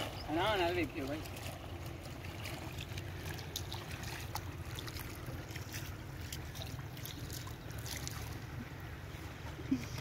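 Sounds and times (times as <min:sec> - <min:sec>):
shallow river water rippling: 0:00.0 - 0:10.0
faint ticks of water: 0:01.3 - 0:09.6.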